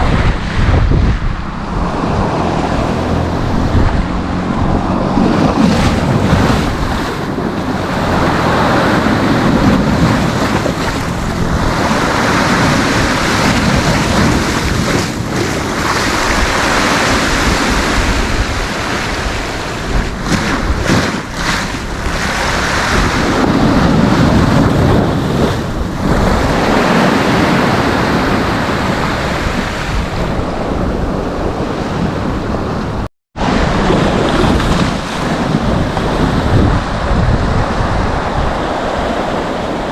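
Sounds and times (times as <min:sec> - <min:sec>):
sea waves breaking on beach: 0:00.0 - 0:39.9
wind buffeting microphone: 0:00.0 - 0:39.9.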